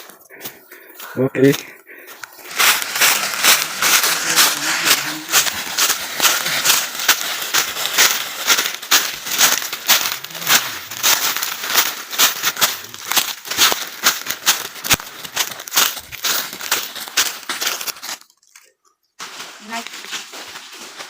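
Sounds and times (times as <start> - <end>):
dense crackling and crunching: 0.8 - 21.0.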